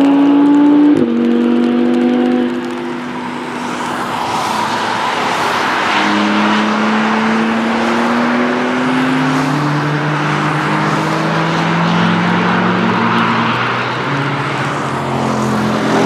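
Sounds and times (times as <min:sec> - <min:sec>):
car engine accelerating: 0:00.0 - 0:16.0
road and wind noise: 0:00.0 - 0:16.0.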